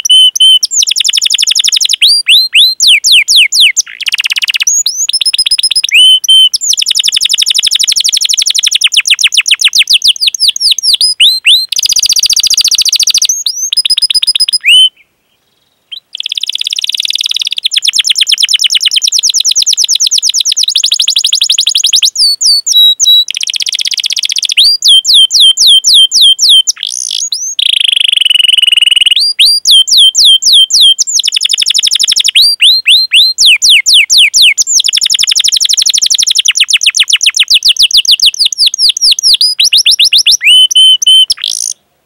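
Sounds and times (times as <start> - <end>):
canary singing trills and chirps: 0.0 - 41.8.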